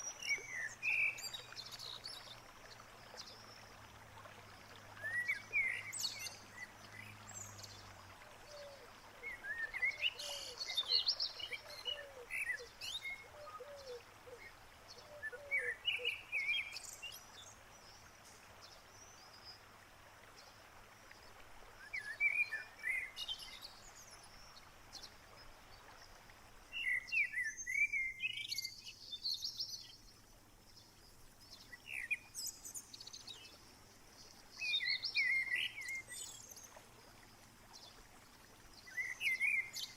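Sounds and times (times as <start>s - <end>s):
faint outdoor hiss: 0.0s - 39.9s
songbirds singing: 0.0s - 39.9s.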